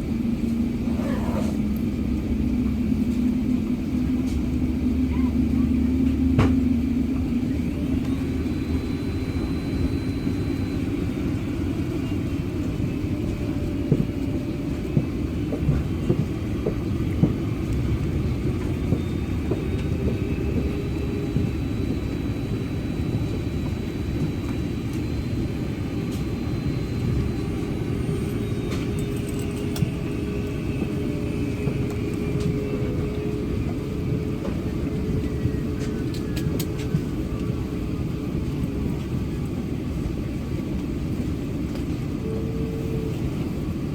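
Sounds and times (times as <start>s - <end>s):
aircraft cabin engine rumble: 0.0s - 43.9s
faint whining tones: 0.0s - 43.9s.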